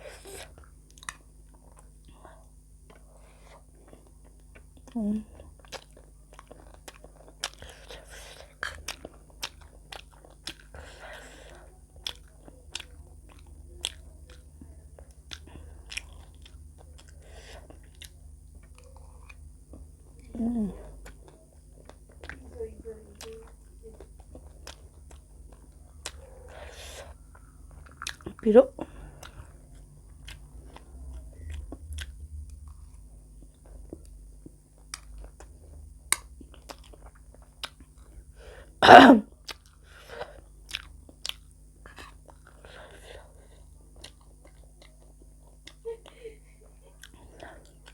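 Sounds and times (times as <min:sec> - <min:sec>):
low steady hum: 0:00.0 - 0:47.9
person chewing food: 0:00.0 - 0:47.9.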